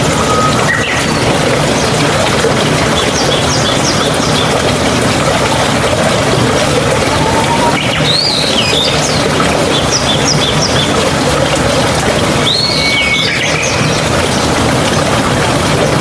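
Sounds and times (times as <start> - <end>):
mountain stream rushing: 0.0 - 16.0
songbirds calling: 0.1 - 14.6.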